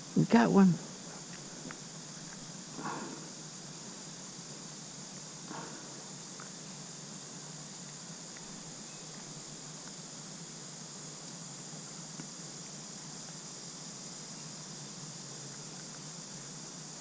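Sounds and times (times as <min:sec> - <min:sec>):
faint low hum: 0:00.0 - 0:17.0
insects chirring: 0:00.0 - 0:17.0.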